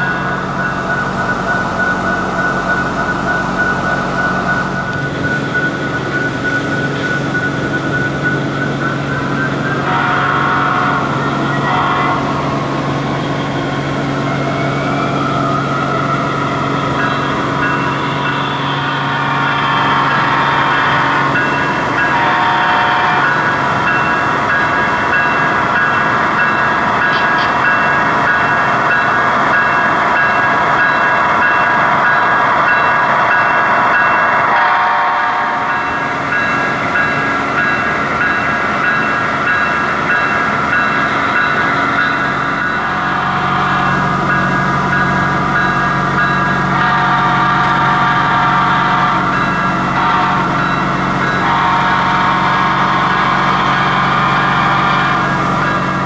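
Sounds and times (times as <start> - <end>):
model locomotive diesel engine drone: 0.0 - 56.0.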